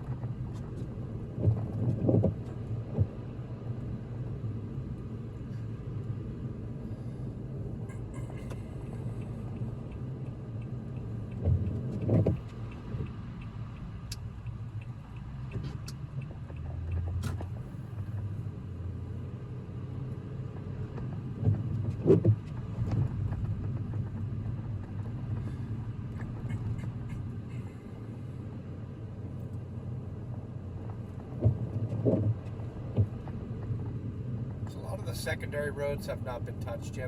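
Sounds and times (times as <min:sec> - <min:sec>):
car engine and tyres drone: 0:00.0 - 0:37.0.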